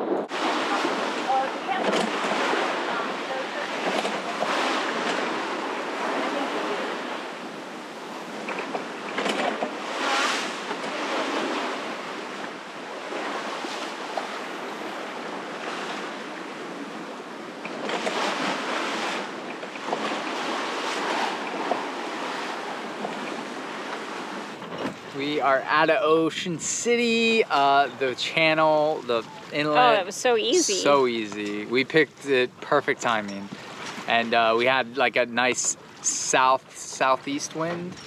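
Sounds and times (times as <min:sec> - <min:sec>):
water rushing along a boat hull: 0:00.0 - 0:38.0.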